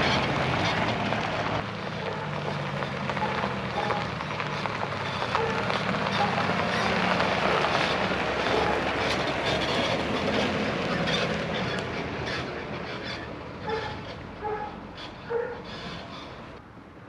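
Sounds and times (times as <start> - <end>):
truck engine and road noise: 0.0 - 17.0
short squeaks: 2.0 - 16.6.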